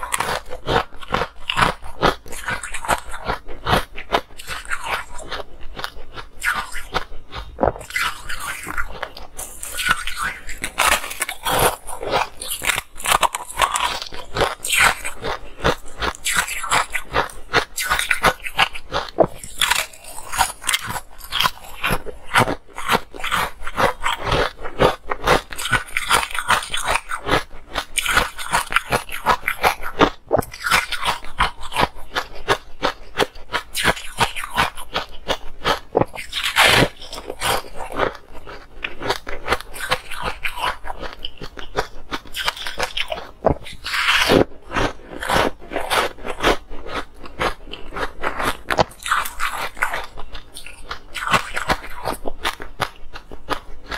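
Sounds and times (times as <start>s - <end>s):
chewing crunchy ice: 0.0s - 53.9s.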